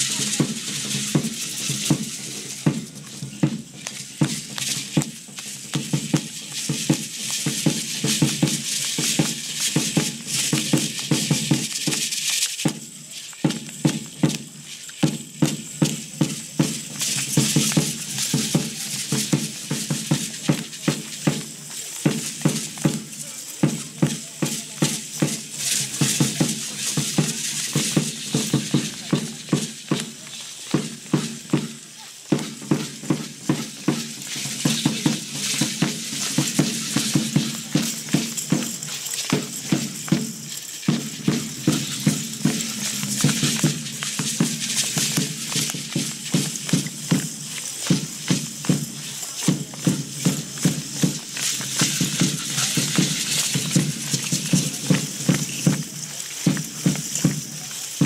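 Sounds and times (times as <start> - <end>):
drum beating: 0.0 - 58.0
hand rattles shaken: 0.0 - 58.0.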